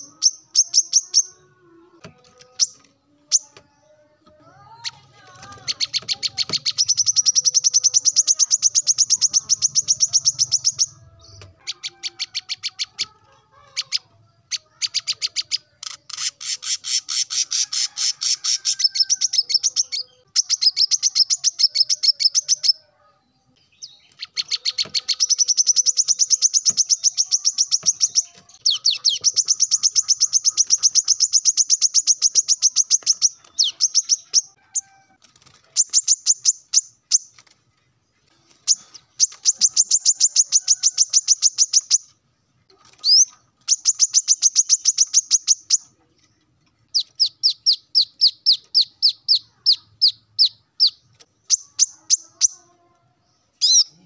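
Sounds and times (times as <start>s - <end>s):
bird singing rapid high chirps: 0.0s - 1.4s, 2.4s - 4.0s, 4.8s - 13.1s, 13.7s - 22.8s, 23.7s - 34.6s, 35.7s - 37.6s, 38.5s - 42.1s, 42.9s - 45.9s, 46.9s - 52.6s, 53.5s - 54.0s.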